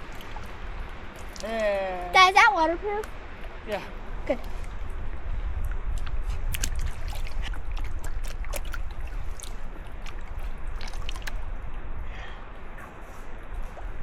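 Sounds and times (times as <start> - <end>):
water splashing and trickling: 0.0 - 14.0
wind rumble on microphone: 0.0 - 14.0.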